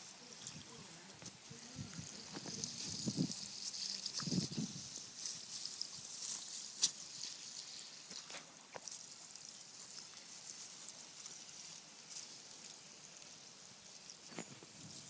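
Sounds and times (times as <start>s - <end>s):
water spraying from a hose: 0.0s - 15.0s.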